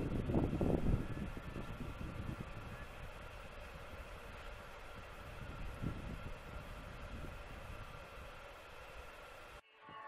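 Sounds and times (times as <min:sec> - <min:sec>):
wind buffeting microphone: 0:00.0 - 0:08.5.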